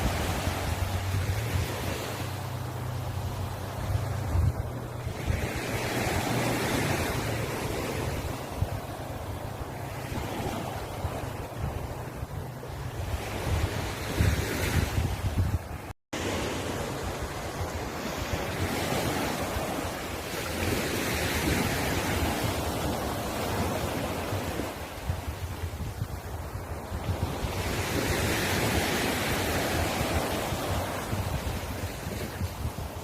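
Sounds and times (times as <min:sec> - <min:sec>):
surf washing onto shore: 0:00.0 - 0:33.0
wind rumble on microphone: 0:00.0 - 0:33.0.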